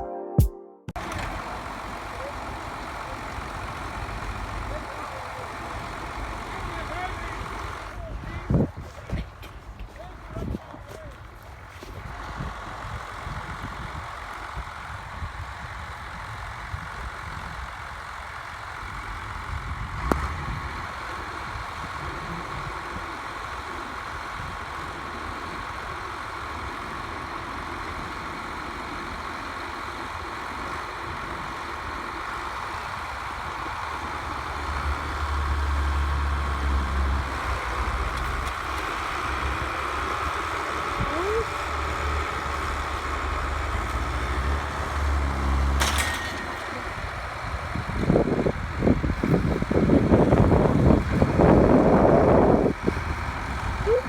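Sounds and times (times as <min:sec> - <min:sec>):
tractor engine running: 0:00.9 - 0:54.0.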